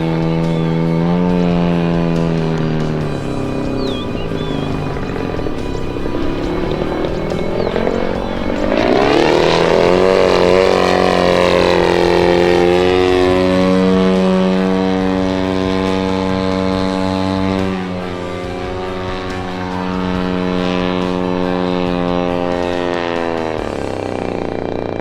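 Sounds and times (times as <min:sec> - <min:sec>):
model plane engine at high throttle: 0:00.0 - 0:25.0.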